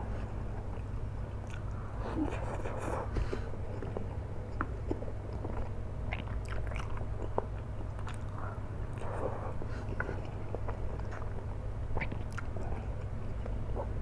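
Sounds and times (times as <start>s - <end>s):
steady low hum: 0.0s - 14.0s
person chewing noodles: 0.6s - 14.0s.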